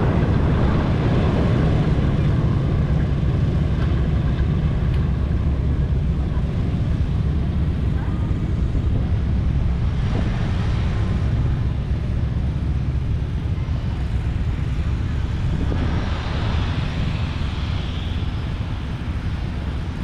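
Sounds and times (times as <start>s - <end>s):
radial aircraft engines rumbling: 0.0s - 20.0s.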